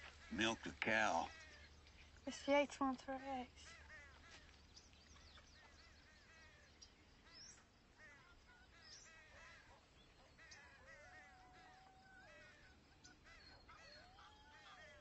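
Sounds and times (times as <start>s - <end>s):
farmyard birds squawking: 0.0s - 4.6s, 5.6s - 15.0s.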